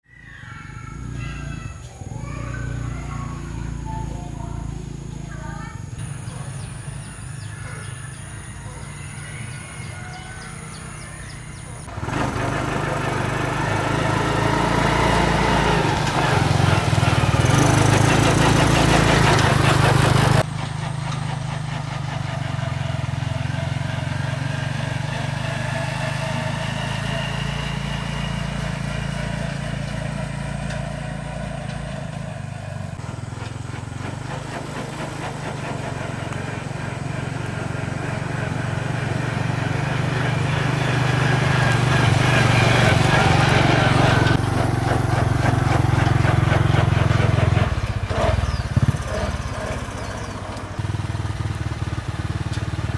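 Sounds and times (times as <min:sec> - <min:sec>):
small engine running: 0:00.3 - 0:52.9.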